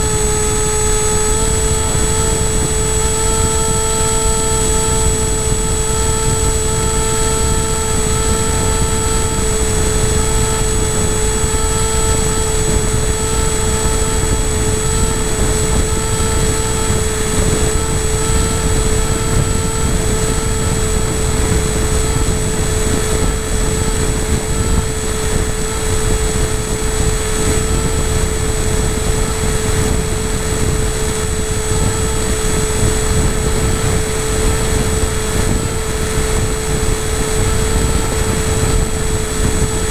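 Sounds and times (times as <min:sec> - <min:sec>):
model aircraft motor whining: 0:00.0 - 0:39.9
wind rushing over microphone: 0:00.0 - 0:39.9.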